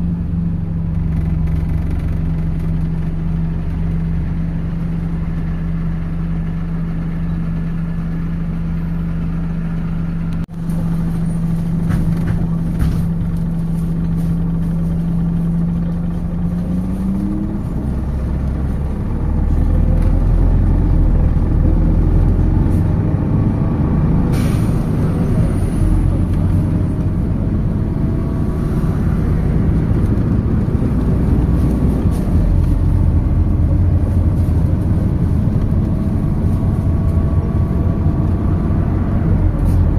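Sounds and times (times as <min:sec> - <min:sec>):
bus accelerating with whine: 0:00.0 - 0:39.9
bus engine idling: 0:00.0 - 0:39.9.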